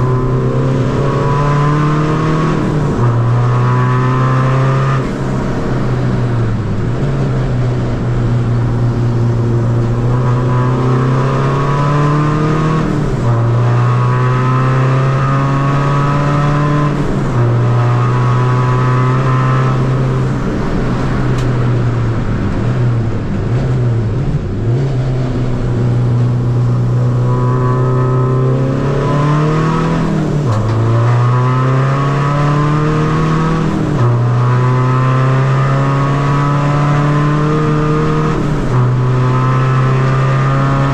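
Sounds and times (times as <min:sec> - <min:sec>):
diesel engine accelerating: 0:00.0 - 0:40.9.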